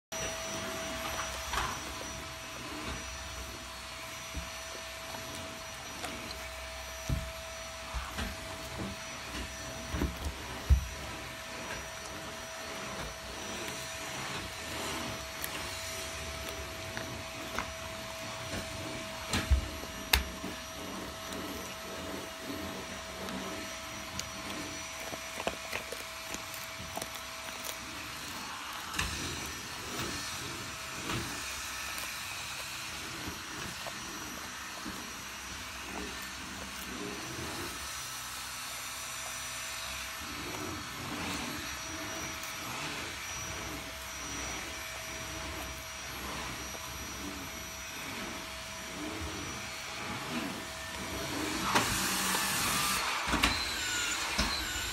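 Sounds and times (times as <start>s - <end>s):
vacuum cleaner running: 0.1s - 54.9s
dog crunching a chew treat: 0.6s - 48.0s.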